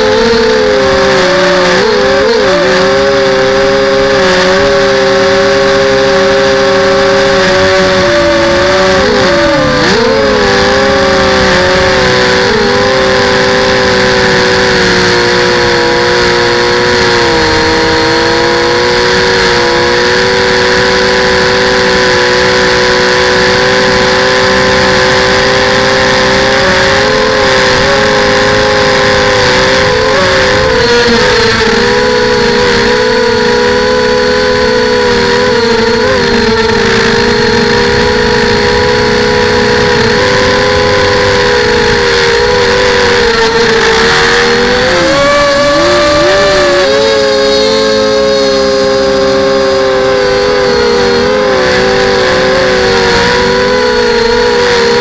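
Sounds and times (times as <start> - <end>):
drone motors and propellers whining: 0.0 - 55.0.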